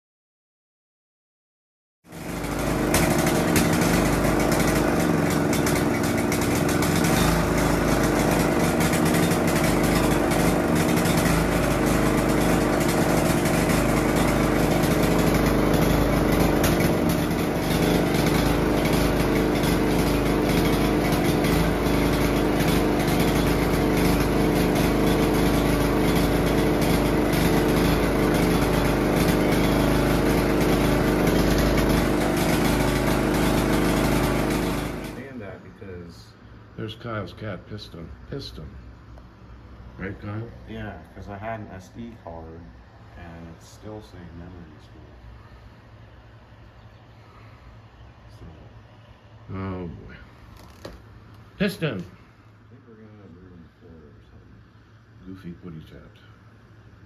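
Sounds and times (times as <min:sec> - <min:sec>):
lawn mower engine running: 0:02.1 - 0:35.7, 0:38.1 - 0:57.0.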